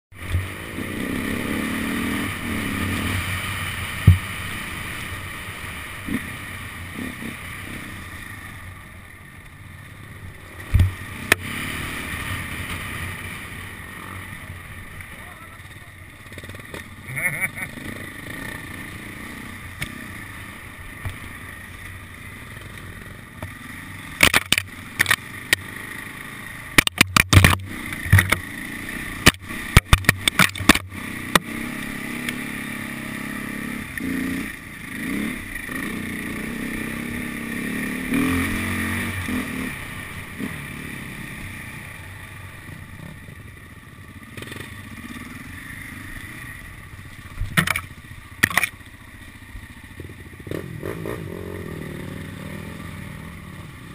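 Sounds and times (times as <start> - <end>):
motorcycle engine revving: 0.1 - 53.9.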